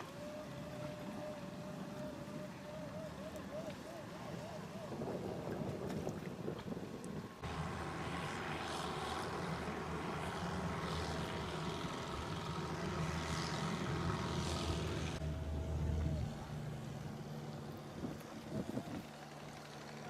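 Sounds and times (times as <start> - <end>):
boat engine running: 0.0 - 20.0
sea noise: 0.0 - 20.0
wind: 0.0 - 20.0.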